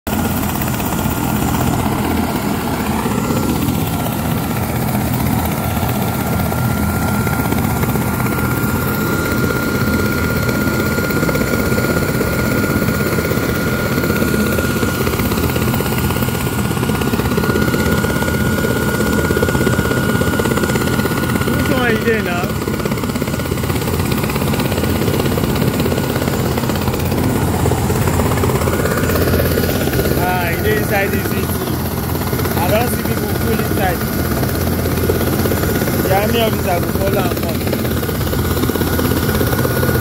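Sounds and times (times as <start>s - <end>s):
helicopter rotor noise: 0.1s - 40.0s
high turbine whine: 0.1s - 40.0s.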